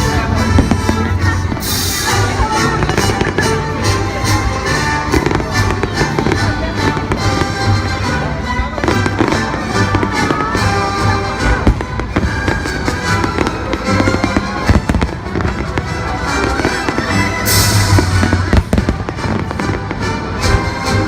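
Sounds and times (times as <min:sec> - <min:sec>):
fireworks bursting with bangs: 0:00.0 - 0:21.0.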